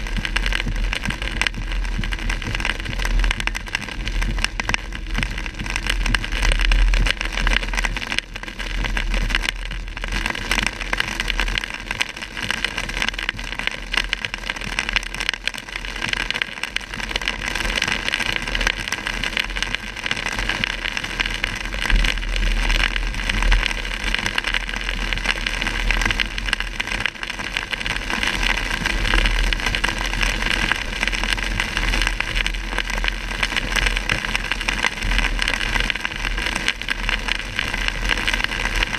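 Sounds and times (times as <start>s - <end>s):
constant low rumble: 0.0s - 38.9s
heavy rain on car: 0.0s - 38.9s.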